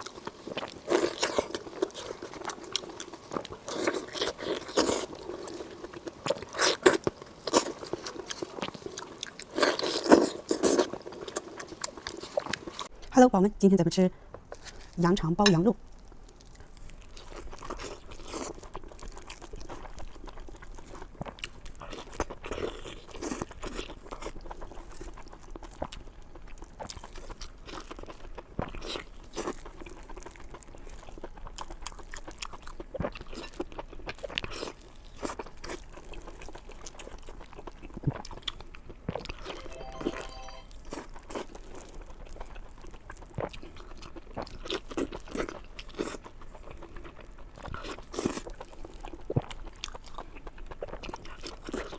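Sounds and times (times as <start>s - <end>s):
crunchy biting and chewing: 0.0s - 12.9s, 15.9s - 51.9s.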